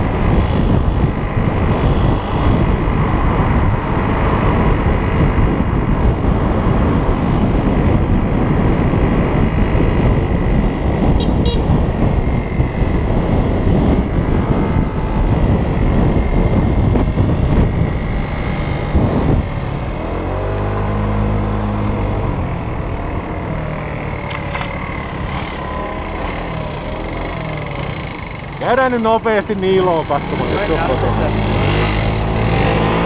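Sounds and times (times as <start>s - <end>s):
moped engine running: 0.0s - 33.0s
wind rushing over microphone: 0.0s - 33.0s.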